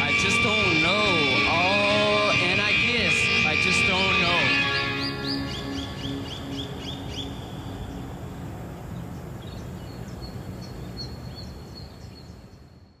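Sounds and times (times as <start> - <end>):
steady rushing noise: 0.0 - 12.5
small birds chirping: 0.1 - 13.0.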